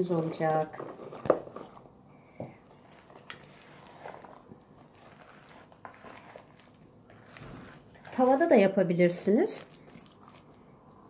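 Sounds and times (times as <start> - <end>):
spatula stirring batter: 0.0 - 10.7.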